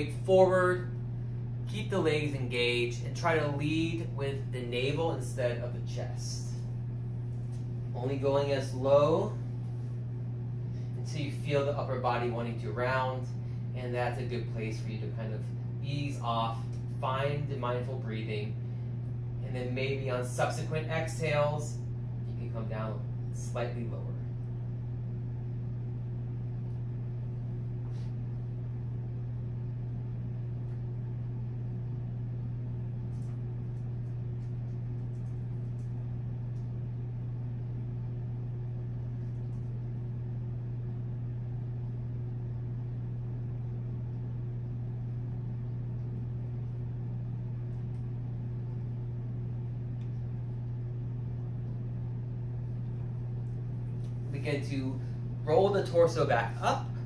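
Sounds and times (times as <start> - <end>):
low hum with light hiss: 0.0 - 57.0.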